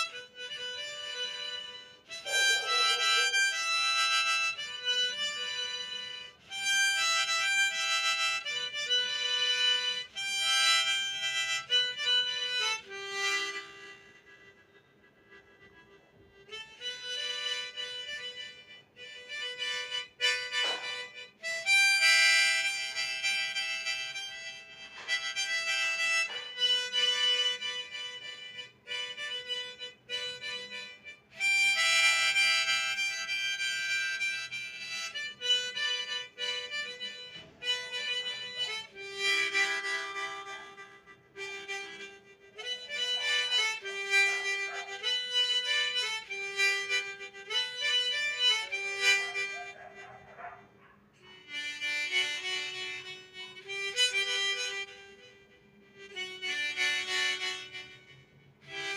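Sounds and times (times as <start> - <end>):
harmonica playing a tune: 0.0 - 58.9.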